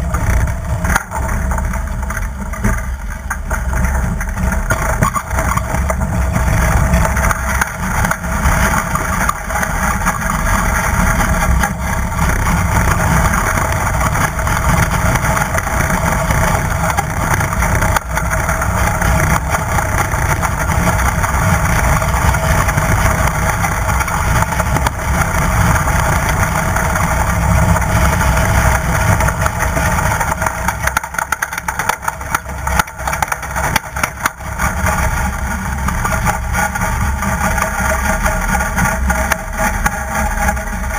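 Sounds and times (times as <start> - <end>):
strong wind buffeting camera: 0.0 - 40.9.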